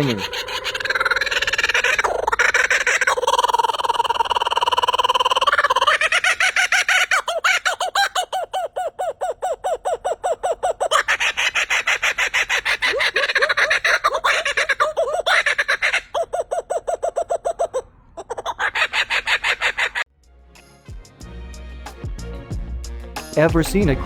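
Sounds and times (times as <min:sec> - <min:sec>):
bird calling loudly: 0:00.0 - 0:20.1.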